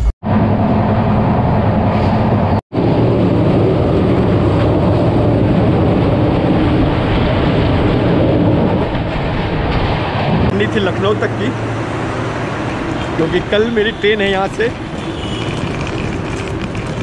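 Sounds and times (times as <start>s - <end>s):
train rumbling over bridge: 0.0s - 17.0s.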